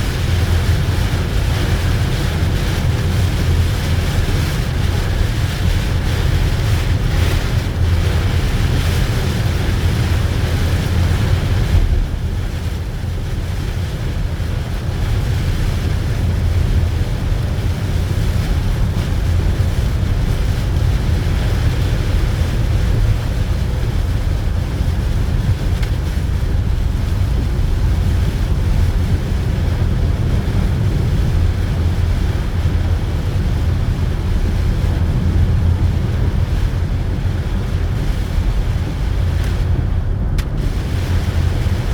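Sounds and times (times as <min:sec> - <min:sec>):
car rumble from inside: 0:00.0 - 0:41.9
rain and tyre spray hiss: 0:00.0 - 0:41.9.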